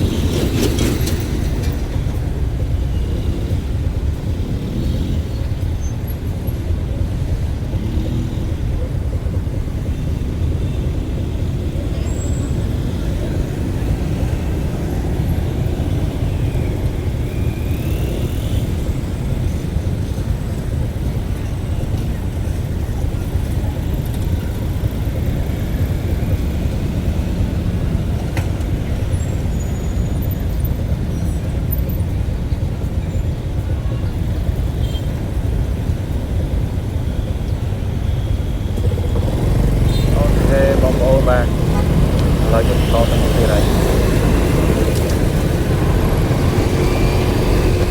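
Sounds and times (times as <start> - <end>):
road vehicle rumbling: 0.0 - 47.9.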